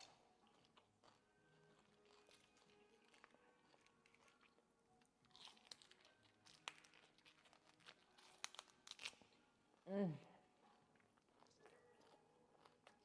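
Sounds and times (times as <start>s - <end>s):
crunchy chewing of food: 0.0s - 13.0s.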